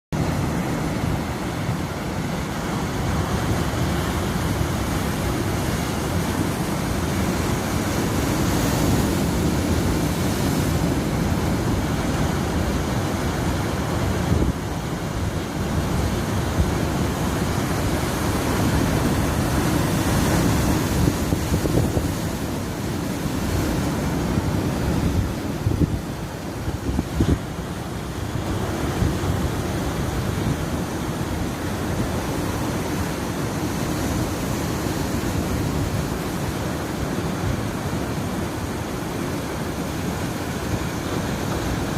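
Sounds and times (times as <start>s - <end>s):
ocean waves breaking: 0.1s - 41.9s
wind buffeting microphone: 0.2s - 38.8s.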